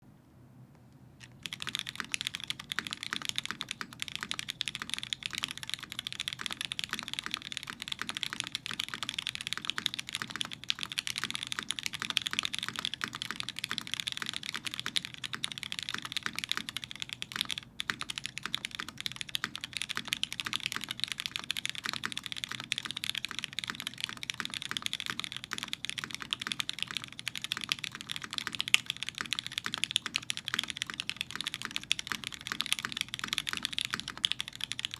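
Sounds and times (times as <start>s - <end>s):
mechanical keyboard typing: 1.2s - 34.9s.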